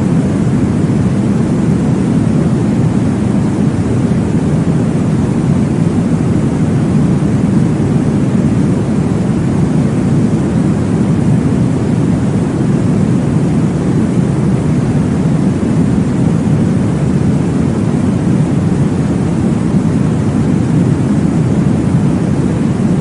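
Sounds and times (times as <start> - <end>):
deep white noise: 0.0 - 23.0.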